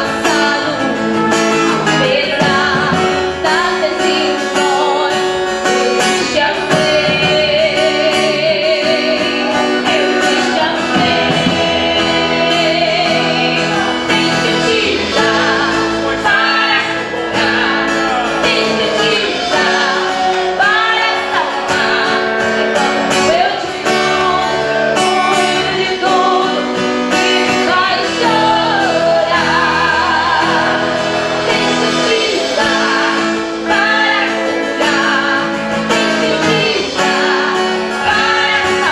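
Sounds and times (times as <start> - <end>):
group singing: 0.0 - 38.9
plucked guitar: 0.0 - 38.9.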